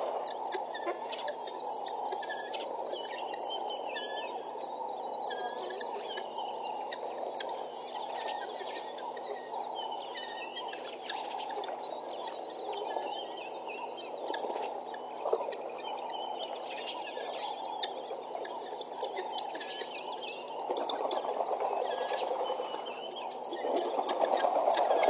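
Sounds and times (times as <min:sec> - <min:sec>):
guineafowl chirping calls: 0:00.0 - 0:25.0.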